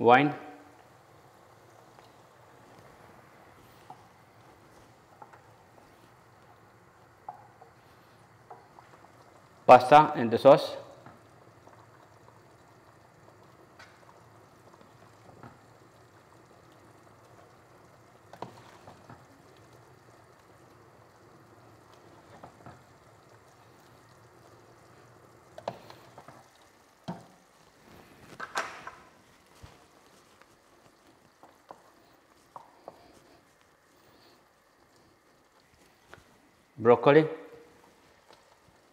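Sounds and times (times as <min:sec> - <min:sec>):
boiling water bubbling: 0:00.3 - 0:38.9.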